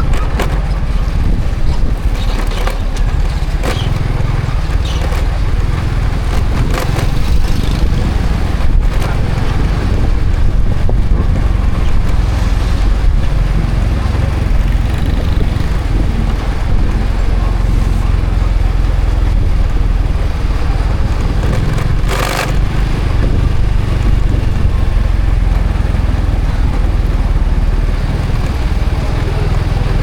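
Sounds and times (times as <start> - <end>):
motorcycle engine rumbling: 0.0 - 30.0.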